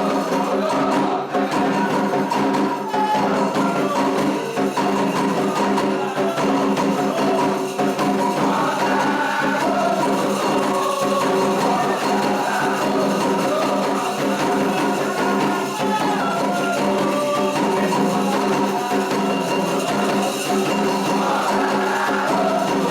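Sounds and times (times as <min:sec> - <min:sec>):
struck percussion: 0:00.0 - 0:22.9
voices chanting together: 0:00.0 - 0:22.9.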